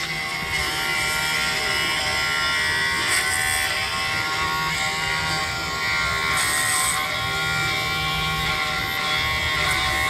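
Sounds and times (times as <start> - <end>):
rotary tool motor whine: 0.0 - 10.0.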